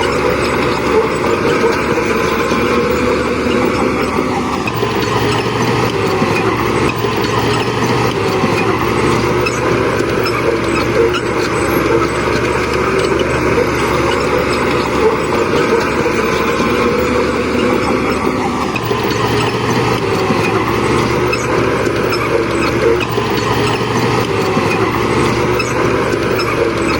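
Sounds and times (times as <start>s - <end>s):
bulldozer diesel engines droning: 0.0s - 26.9s.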